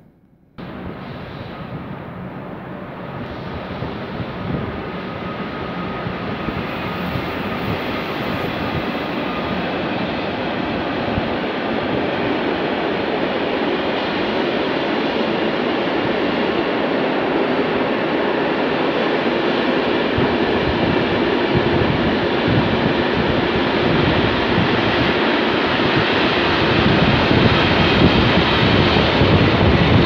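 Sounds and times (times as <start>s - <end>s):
freight train rolling: 0.6s - 30.0s.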